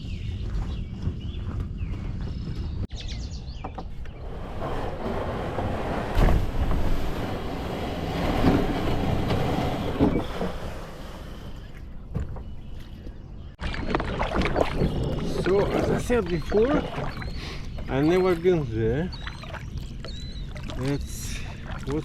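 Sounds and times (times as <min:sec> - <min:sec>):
water noise: 0:04.2 - 0:22.0.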